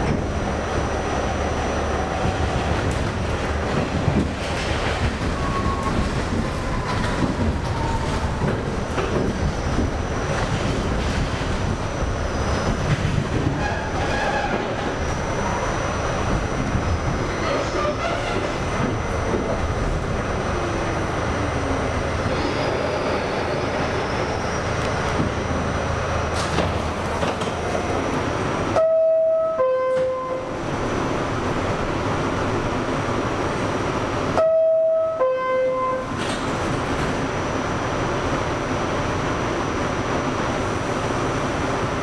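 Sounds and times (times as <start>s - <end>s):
subway train rumbling: 0.0s - 42.0s.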